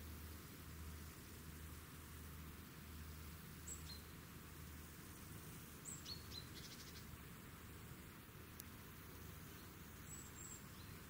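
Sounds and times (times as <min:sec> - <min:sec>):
small bird chirping faintly: 0:00.0 - 0:11.0
steady low hum: 0:00.0 - 0:11.0.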